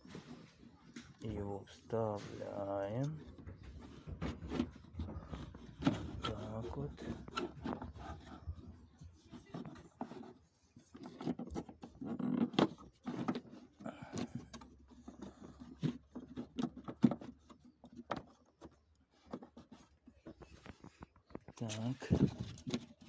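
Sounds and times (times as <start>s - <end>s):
plastic clicks and knocks: 2.9s - 23.0s.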